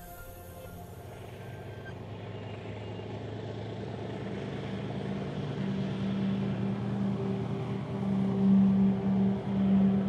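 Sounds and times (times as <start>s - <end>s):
excavator diesel engine humming: 0.0s - 10.0s.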